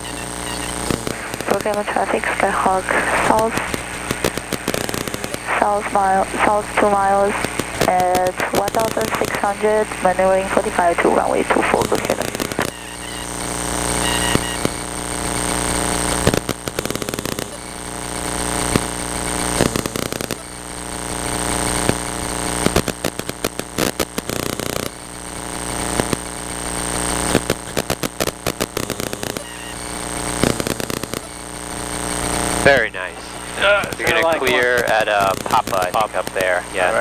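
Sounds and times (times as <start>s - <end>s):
rapid crackling clicks: 0.2s - 37.0s.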